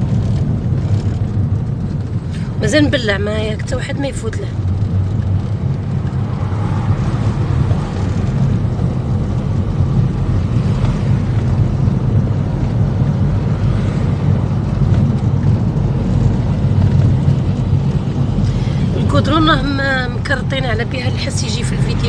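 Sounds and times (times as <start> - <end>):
tyre road noise inside car: 0.0 - 22.0.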